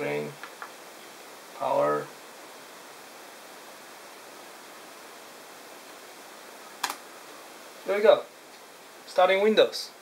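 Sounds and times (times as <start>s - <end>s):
faint high-pitched whine: 0.0s - 10.0s.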